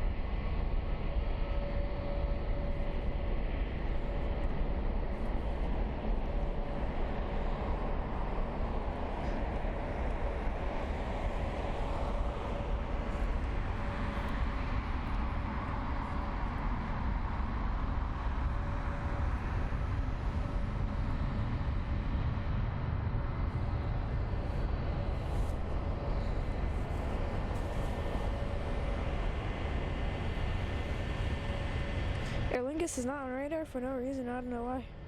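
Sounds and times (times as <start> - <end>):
jet engines rumbling: 0.0 - 34.8
faint steady whine: 0.0 - 35.0.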